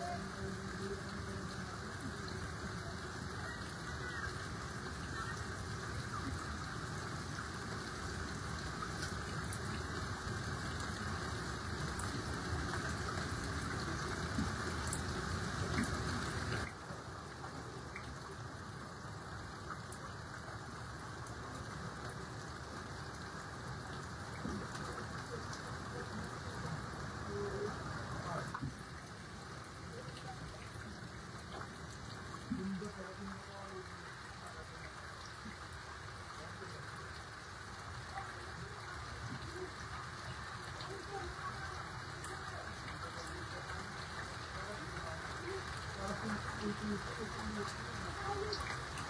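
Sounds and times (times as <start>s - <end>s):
rushing floodwater: 0.0s - 49.0s.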